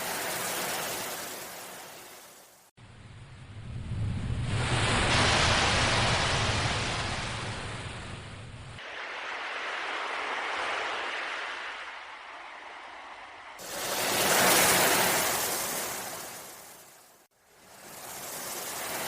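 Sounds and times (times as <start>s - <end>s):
sea waves washing in: 0.0s - 2.7s, 3.4s - 19.0s.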